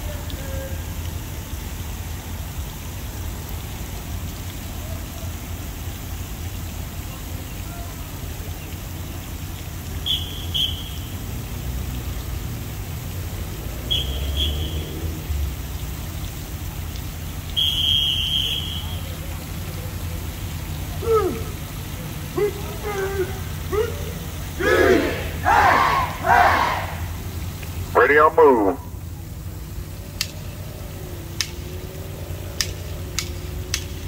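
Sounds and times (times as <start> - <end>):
fountain splashing: 0.0 - 34.0.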